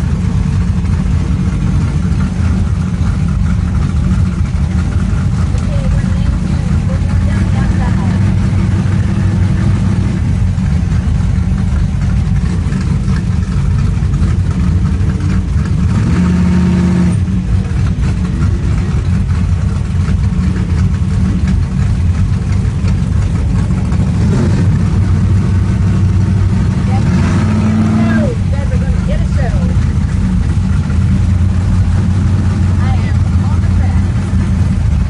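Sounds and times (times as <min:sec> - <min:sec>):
race car engine idling: 0:00.0 - 0:35.0.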